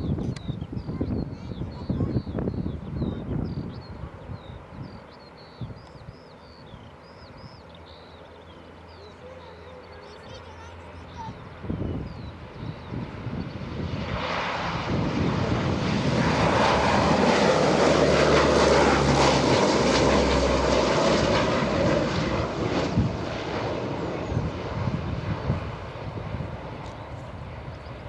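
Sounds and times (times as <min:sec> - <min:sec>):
military aircraft passing overhead: 0:00.0 - 0:28.0.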